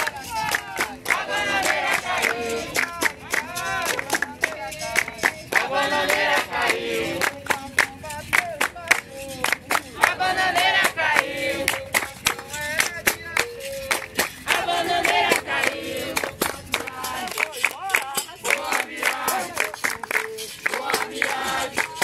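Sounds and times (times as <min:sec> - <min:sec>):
group singing: 0:00.0 - 0:22.0
people clapping a steady beat: 0:00.0 - 0:22.0.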